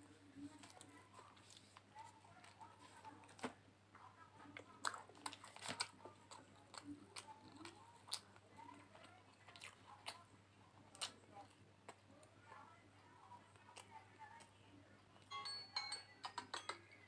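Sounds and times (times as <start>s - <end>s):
faint chewing: 0.0s - 15.3s.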